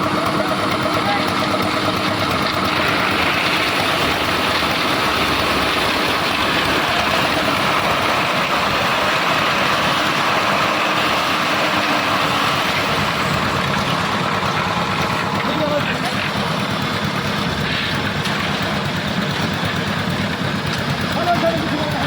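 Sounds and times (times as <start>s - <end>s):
concrete mixer engine drone: 0.0s - 22.0s.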